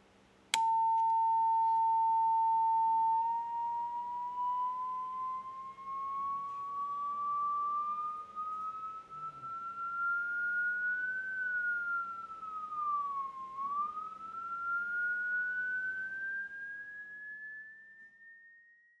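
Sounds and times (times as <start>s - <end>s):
gliding sine test tone: 0.6s - 18.7s.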